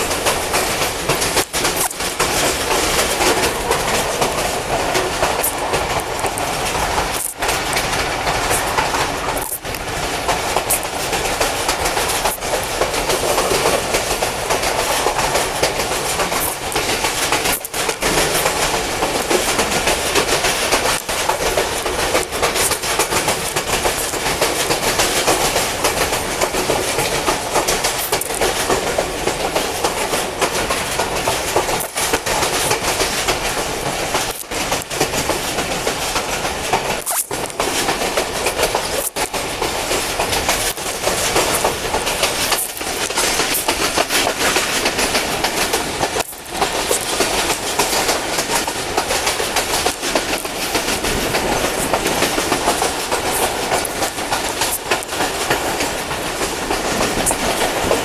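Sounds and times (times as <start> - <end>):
train wheel and track noise: 0.0 - 58.0.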